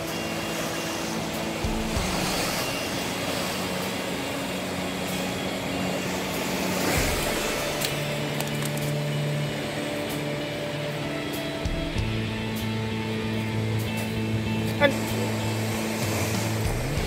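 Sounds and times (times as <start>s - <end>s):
music of held low notes: 0.0s - 17.0s
steady rushing noise: 0.0s - 17.0s.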